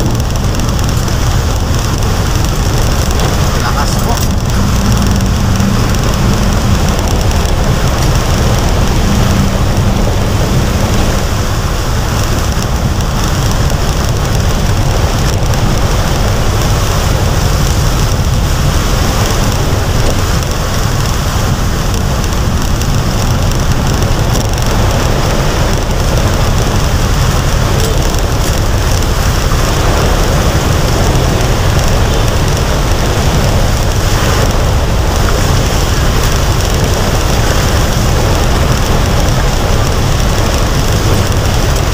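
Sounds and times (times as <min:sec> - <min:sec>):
deep constant rumble: 0:00.0 - 0:41.9
heavy rain pouring: 0:00.0 - 0:41.9
low hum: 0:00.0 - 0:41.9.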